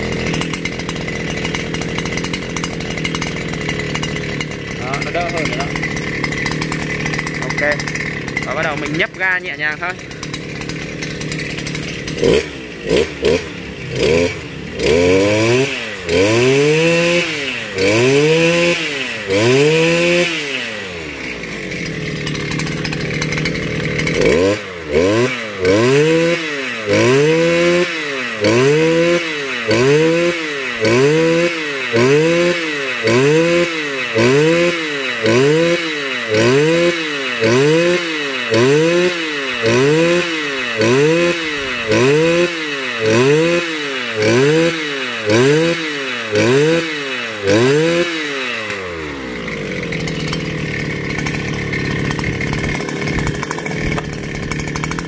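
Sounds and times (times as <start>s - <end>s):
brush cutter engine revving: 0.0s - 55.0s.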